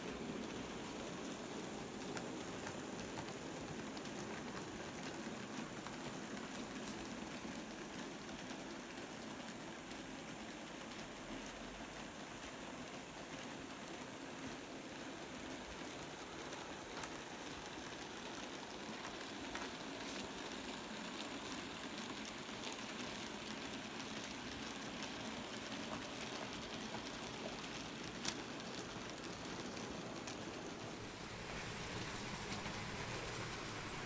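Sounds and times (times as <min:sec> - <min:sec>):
model train running hiss: 0:00.0 - 0:34.0.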